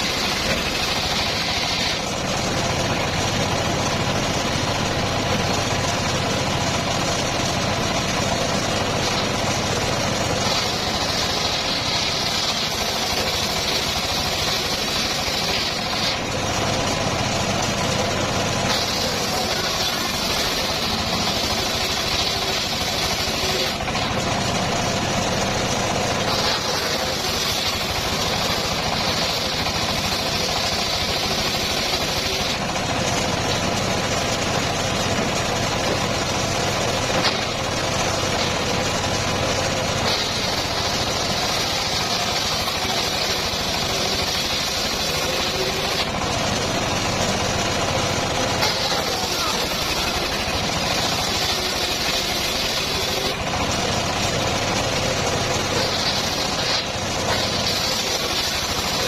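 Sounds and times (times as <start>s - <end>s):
circular sawmill running: 0.0s - 59.0s
high saw whine: 0.0s - 59.0s.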